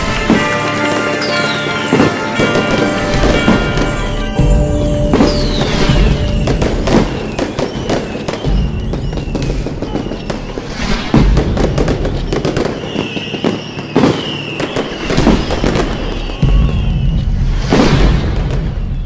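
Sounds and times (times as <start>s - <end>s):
firework whistling: 0.0s - 19.0s
fireworks bangs and crackling: 0.0s - 19.0s.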